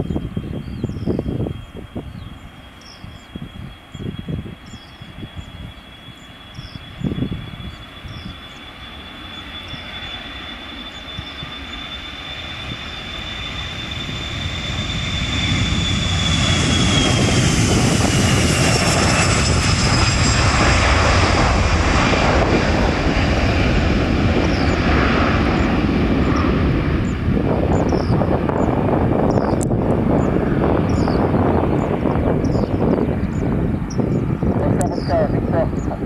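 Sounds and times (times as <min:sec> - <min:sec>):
jet engine whine and roar: 0:00.0 - 0:36.0.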